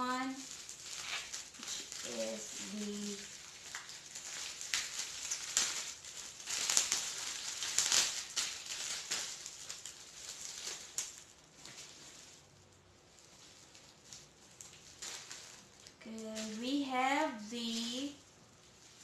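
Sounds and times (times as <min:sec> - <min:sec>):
bubble wrap crinkling: 0:00.0 - 0:19.0.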